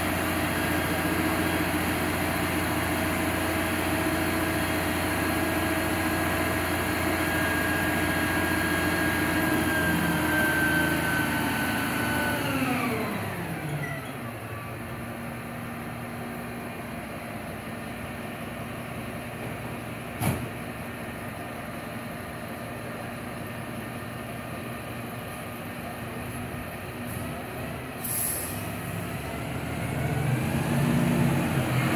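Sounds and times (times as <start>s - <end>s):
truck engine whining: 0.0s - 31.9s.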